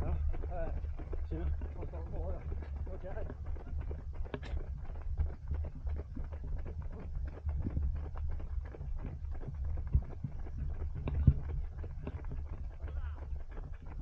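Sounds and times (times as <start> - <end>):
running footsteps: 0.0 - 14.0
wind rumble on microphone: 0.0 - 14.0.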